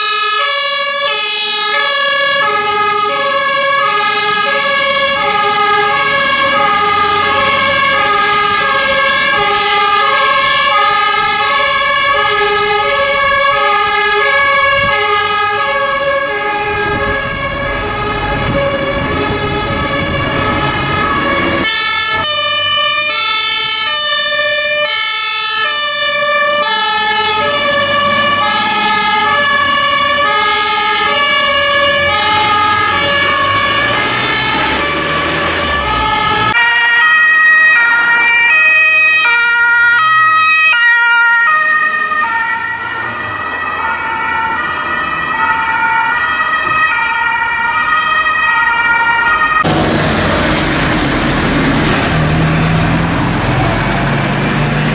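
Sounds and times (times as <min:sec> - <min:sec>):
two-tone fire engine siren: 0:00.0 - 0:54.9.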